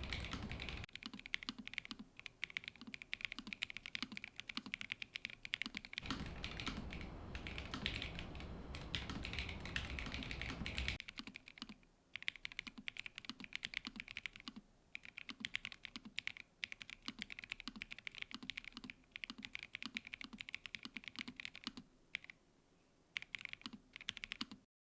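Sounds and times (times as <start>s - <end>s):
mechanical keyboard typing: 0.0s - 22.4s, 23.2s - 24.6s.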